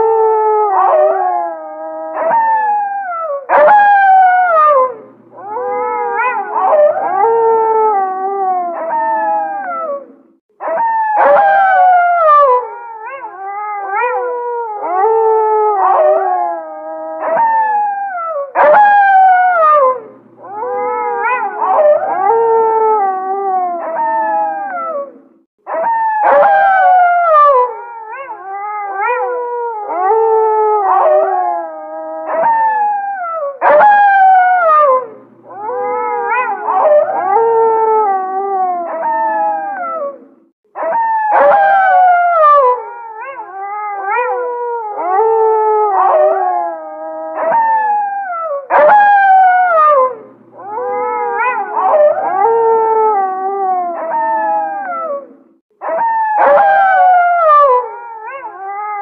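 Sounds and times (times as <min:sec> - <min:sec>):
wolves howling in chorus: 0:00.0 - 0:59.0.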